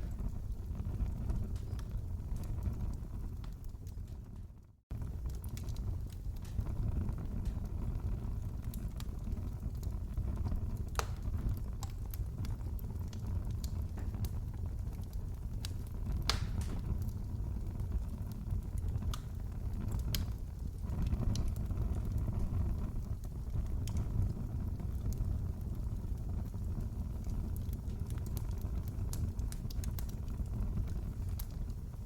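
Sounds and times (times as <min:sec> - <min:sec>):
fire crackling: 0:00.0 - 0:32.0
low rumble of flames: 0:00.0 - 0:32.0.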